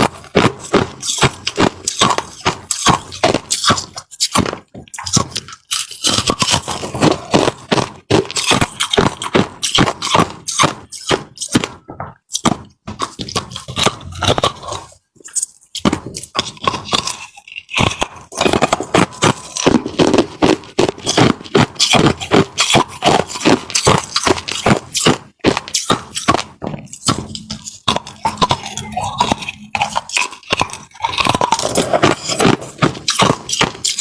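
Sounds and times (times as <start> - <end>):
ice crunching and scraping: 0.0 - 34.0.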